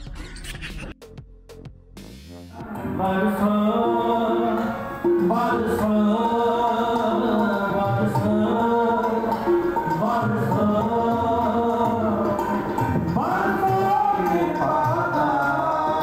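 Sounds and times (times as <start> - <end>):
sung melody with held notes: 2.4 - 16.0.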